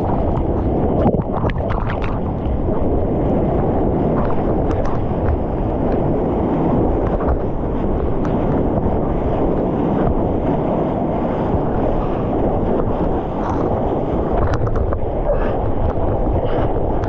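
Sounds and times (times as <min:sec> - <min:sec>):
whitewater churning and splashing: 0:00.0 - 0:17.0
wind buffeting microphone: 0:00.0 - 0:17.0.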